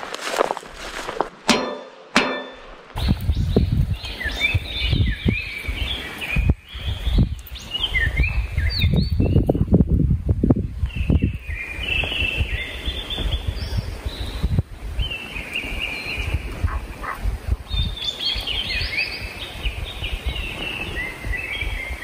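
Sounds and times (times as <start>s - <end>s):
wind rumbling on microphone: 0.0s - 1.5s, 2.6s - 22.0s
birds chirping: 0.0s - 9.8s, 10.9s - 22.0s.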